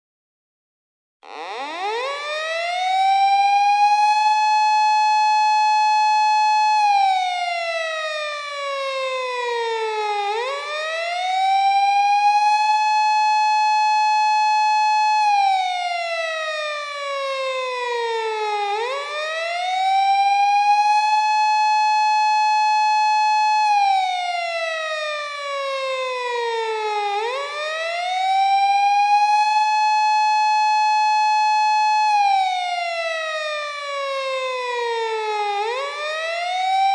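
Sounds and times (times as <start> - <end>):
police car siren wailing: 1.2 - 36.9.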